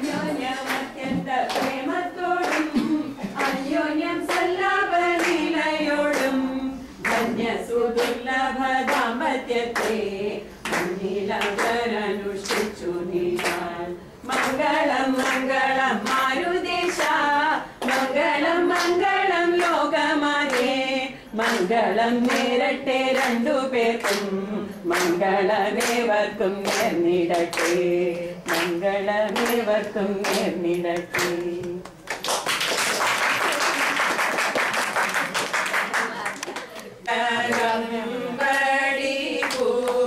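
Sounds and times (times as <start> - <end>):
group singing unaccompanied: 0.0 - 32.0, 36.8 - 40.0
people clapping: 0.0 - 40.0.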